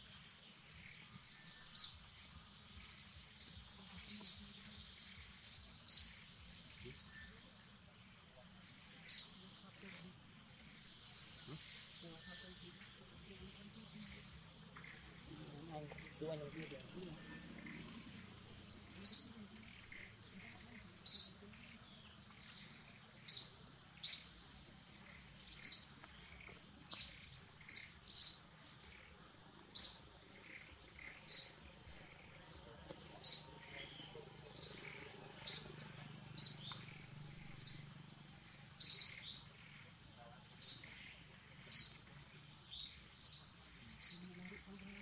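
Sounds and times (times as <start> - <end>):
bird chirping: 0.0 - 45.0
steady high-pitched whine: 0.0 - 45.0.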